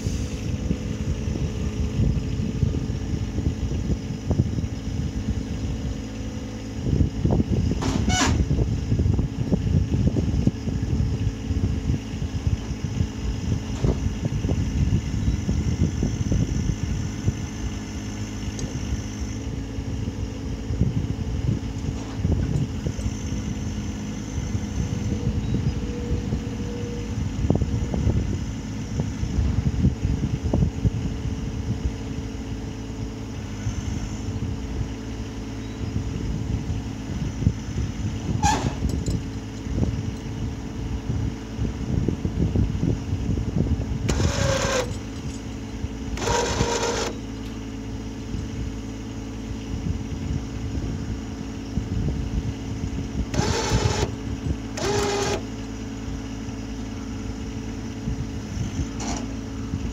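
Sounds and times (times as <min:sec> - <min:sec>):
tractor engine rumbling: 0:00.0 - 0:59.9.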